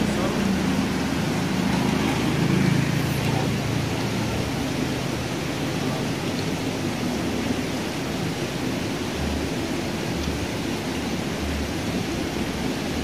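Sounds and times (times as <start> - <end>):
water pouring into pond: 0.0 - 13.0.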